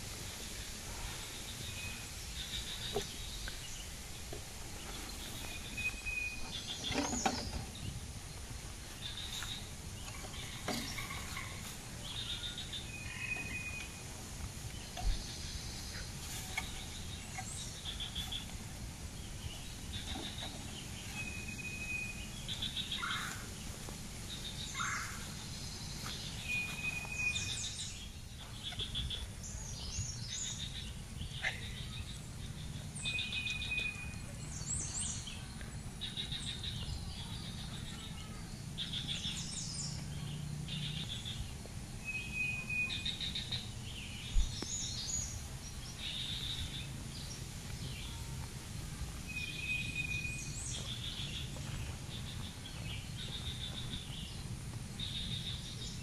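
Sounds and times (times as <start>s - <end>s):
birds chirping and calling: 0.0s - 56.0s
low outdoor rumble: 0.0s - 56.0s.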